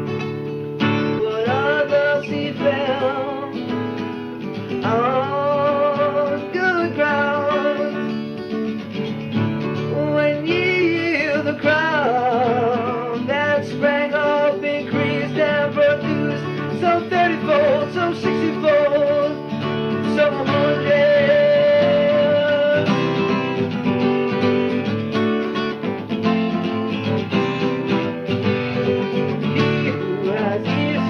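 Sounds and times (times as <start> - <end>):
guitar accompaniment: 0.0 - 31.0.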